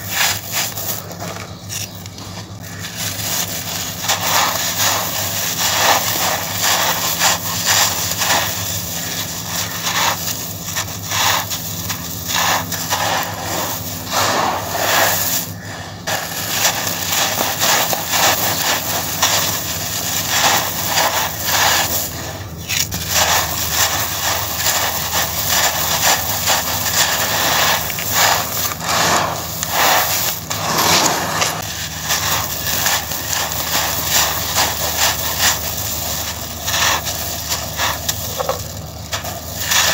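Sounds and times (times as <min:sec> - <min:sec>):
hands crunching gritty sand: 0:00.0 - 0:39.9
sand grains falling on wood: 0:00.0 - 0:39.9.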